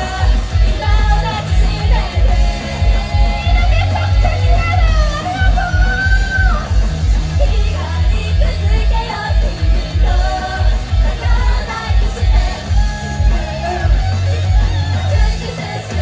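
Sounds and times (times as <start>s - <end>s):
live rock band with singing: 0.0s - 16.0s.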